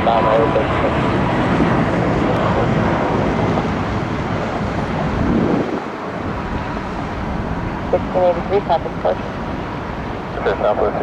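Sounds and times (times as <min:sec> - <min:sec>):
jet airliner engines: 0:00.0 - 0:11.0
wind on microphone: 0:00.0 - 0:11.0.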